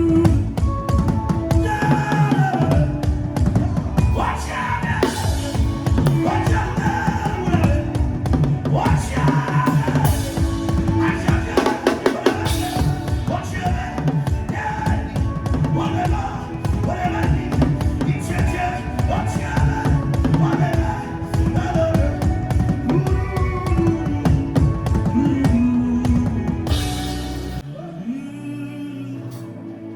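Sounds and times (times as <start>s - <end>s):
fast drumming: 0.0s - 27.6s.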